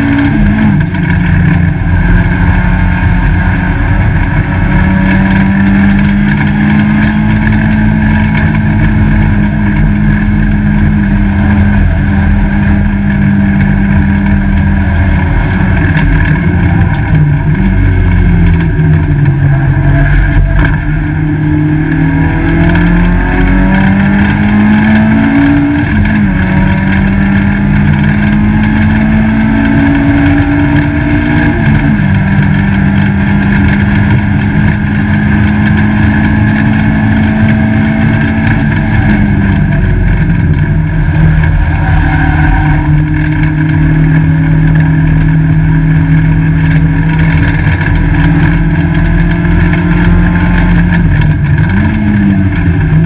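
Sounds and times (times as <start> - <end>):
race car engine running under load: 0.0 - 53.0.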